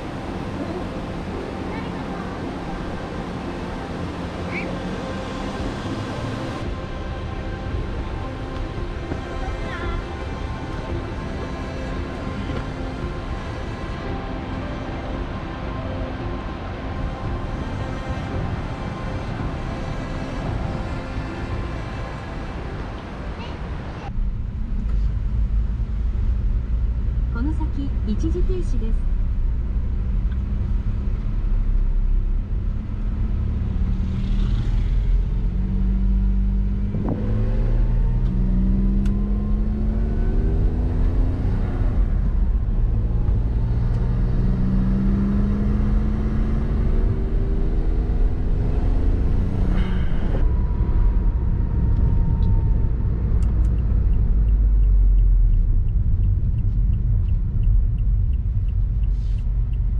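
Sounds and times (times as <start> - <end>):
car engine accelerating and shifting: 0.0 - 59.9.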